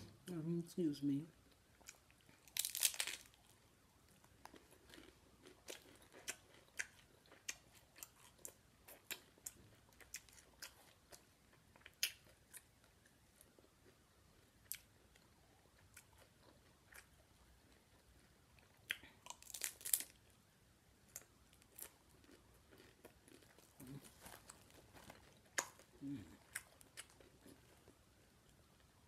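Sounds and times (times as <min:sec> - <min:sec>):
person chewing crunchy taco: 0:01.5 - 0:20.4, 0:21.0 - 0:28.9.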